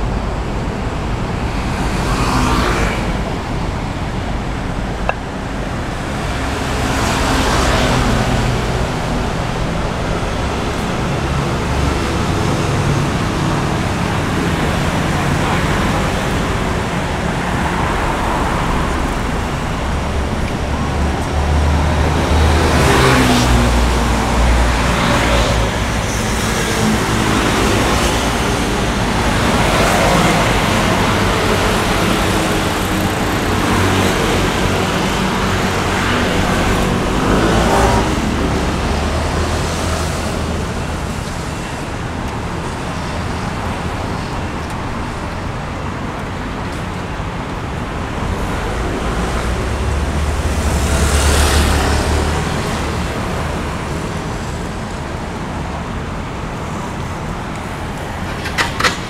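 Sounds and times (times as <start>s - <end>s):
city traffic rumble: 0.0s - 59.0s
vehicles passing close: 0.0s - 59.0s.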